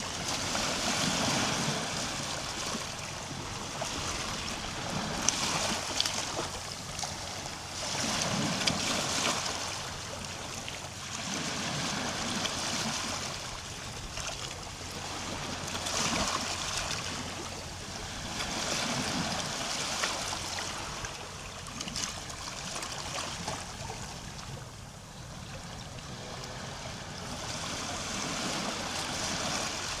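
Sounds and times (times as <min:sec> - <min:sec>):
waves lapping on shore: 0:00.0 - 0:30.0.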